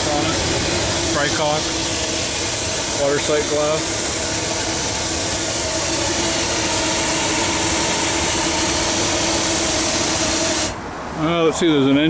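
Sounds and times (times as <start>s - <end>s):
steam hissing: 0.0s - 10.8s.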